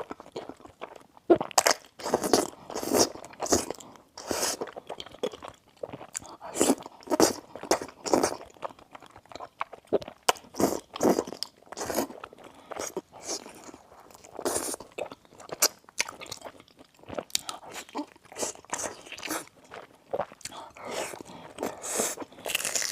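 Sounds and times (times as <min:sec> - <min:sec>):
chewing crunchy food: 0:00.0 - 0:22.9.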